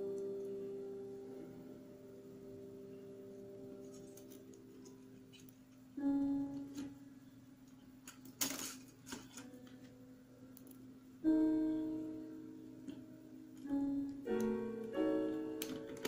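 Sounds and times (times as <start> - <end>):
slow sparse instrumental music: 0.0 - 7.3, 9.1 - 16.0.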